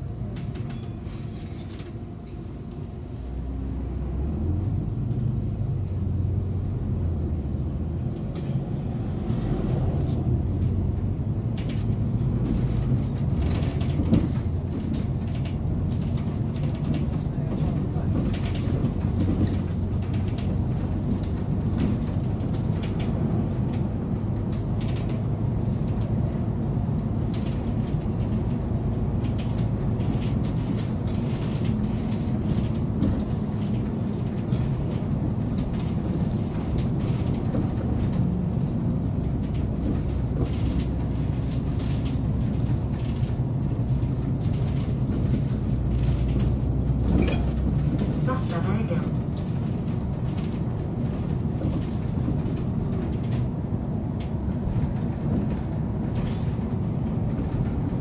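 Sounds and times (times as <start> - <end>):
bus engine and road rumble: 0.0 - 58.0
small clicks and rattles: 11.4 - 58.0.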